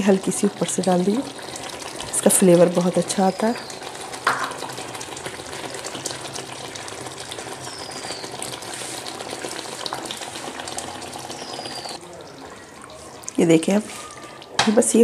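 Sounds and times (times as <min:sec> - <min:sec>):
gravy frying and bubbling: 0:00.0 - 0:15.0.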